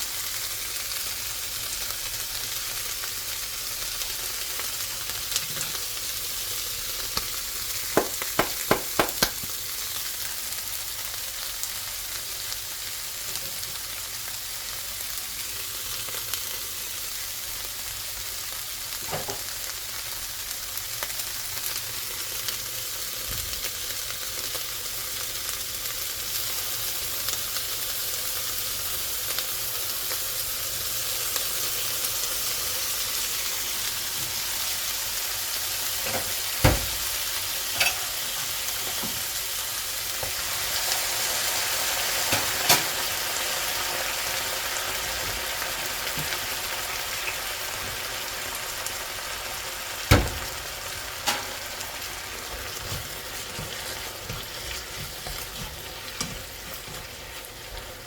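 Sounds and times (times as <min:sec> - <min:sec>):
food sizzling in a hot pan: 0:00.0 - 0:58.0.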